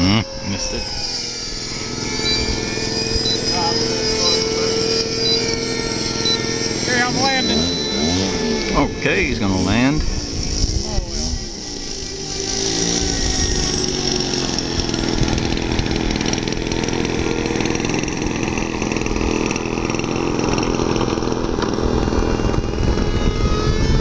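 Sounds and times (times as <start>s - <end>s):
model jet electric fan whine: 0.0s - 24.0s.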